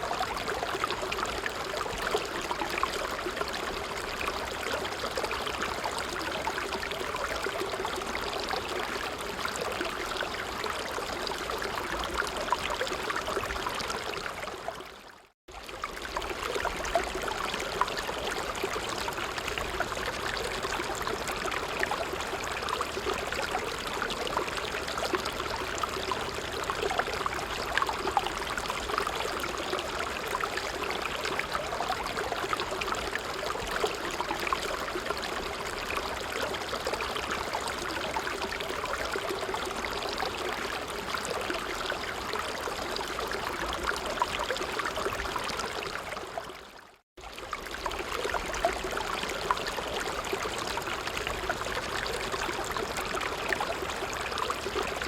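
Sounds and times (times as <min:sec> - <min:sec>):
creek water babbling over stones: 0:00.0 - 0:55.0.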